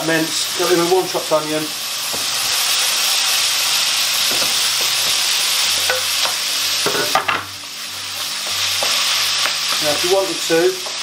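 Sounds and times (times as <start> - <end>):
meat and onion sizzling in pan: 0.0 - 11.0.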